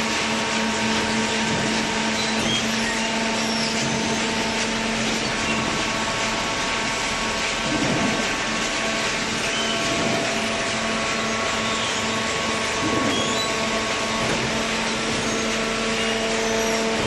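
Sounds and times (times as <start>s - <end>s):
baler machine running: 0.0s - 17.0s.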